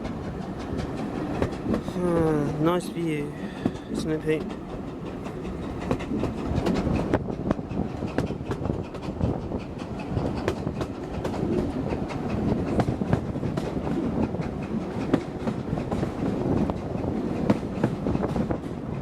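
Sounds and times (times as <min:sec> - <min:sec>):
wheels clicking over rail joints: 0:00.0 - 0:18.8
train rumble: 0:00.0 - 0:19.0.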